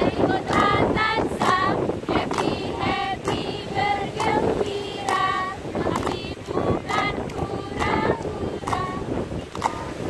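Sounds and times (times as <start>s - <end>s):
women singing a chant: 0.0s - 10.0s
hand claps: 0.1s - 10.0s.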